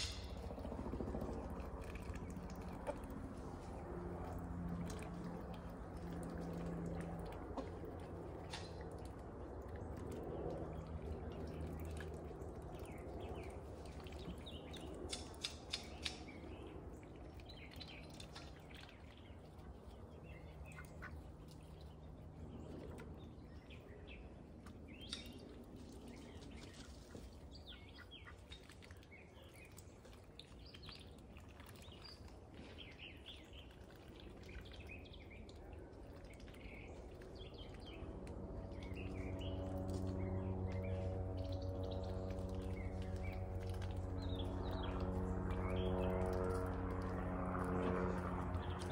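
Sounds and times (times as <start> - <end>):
low steady hum: 0.0 - 48.9.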